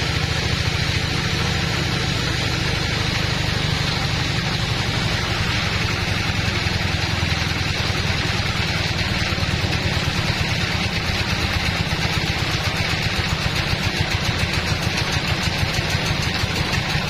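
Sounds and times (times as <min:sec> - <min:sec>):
band saw cutting log: 0:00.0 - 0:17.0.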